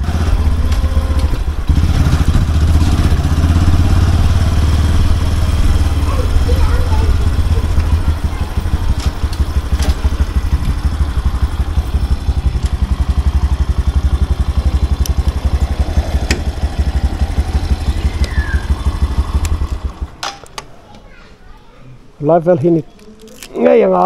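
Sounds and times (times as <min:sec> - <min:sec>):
motorcycle engine idling: 0:00.0 - 0:20.2.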